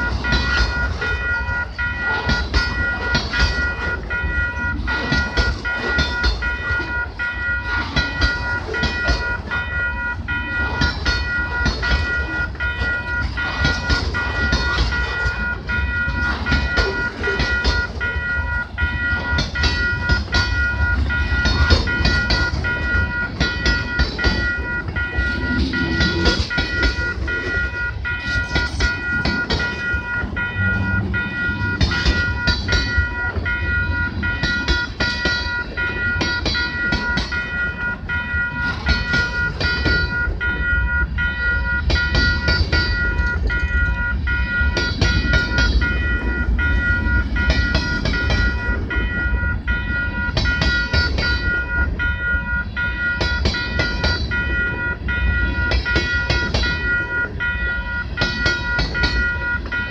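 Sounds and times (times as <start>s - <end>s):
freight cars rumbling: 0.0s - 59.9s
high ringing tone: 0.0s - 59.9s
wheels clacking over rail joints: 0.0s - 59.9s.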